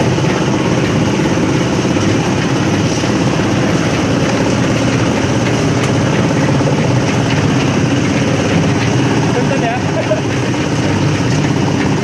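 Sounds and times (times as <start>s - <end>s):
concrete mixer engine droning: 0.0s - 12.0s.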